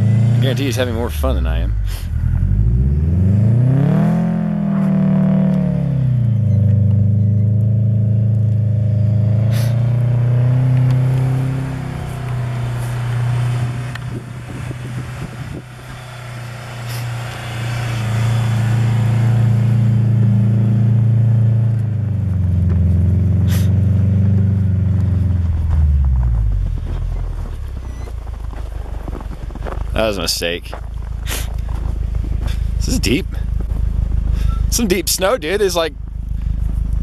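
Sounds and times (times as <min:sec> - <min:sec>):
car engine running hard: 0:00.0 - 0:37.0.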